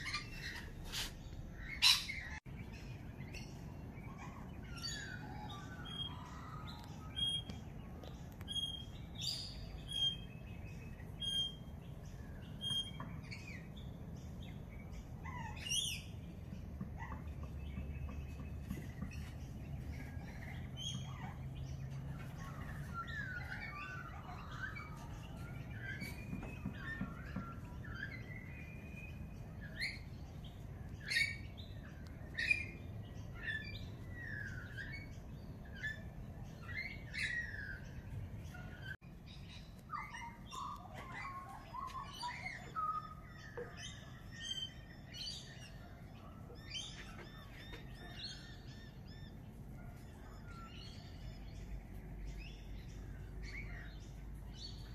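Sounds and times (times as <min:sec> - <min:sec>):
wild birds chirping: 0:00.0 - 0:54.9.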